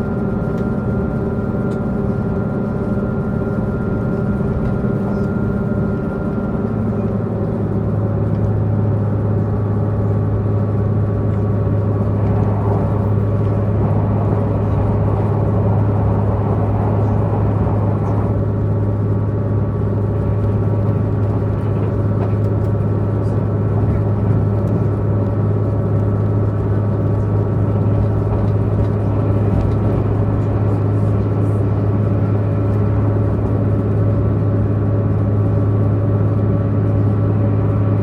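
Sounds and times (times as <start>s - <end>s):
train diesel engine hum: 0.0s - 38.0s
wheel and rail rumble: 0.0s - 38.0s.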